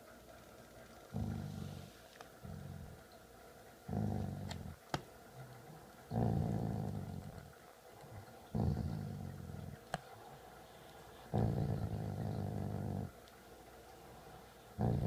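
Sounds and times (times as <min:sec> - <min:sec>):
dog play-growling: 0:01.0 - 0:13.4, 0:14.4 - 0:15.0.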